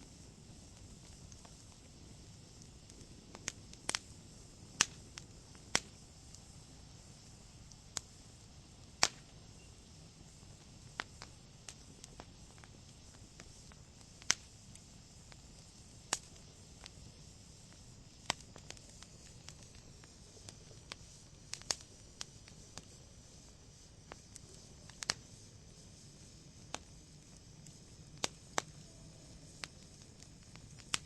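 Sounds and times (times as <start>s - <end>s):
faint steady hiss: 0.0s - 31.0s
wood fire crackling: 0.0s - 31.0s.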